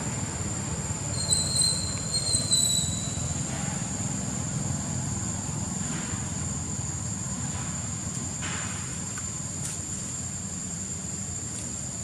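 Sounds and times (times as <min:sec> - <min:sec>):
continuous high-pitched whine: 0:00.0 - 0:12.0.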